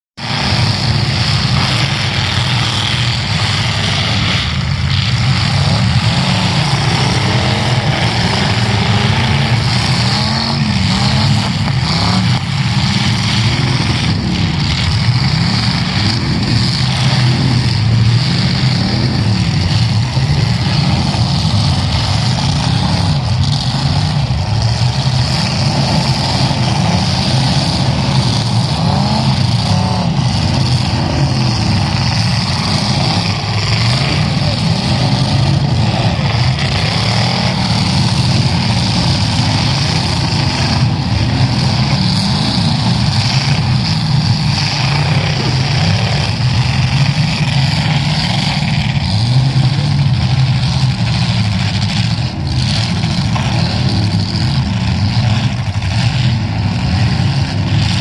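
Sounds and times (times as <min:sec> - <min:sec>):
car engines revving hard: 0:00.2 - 0:58.0.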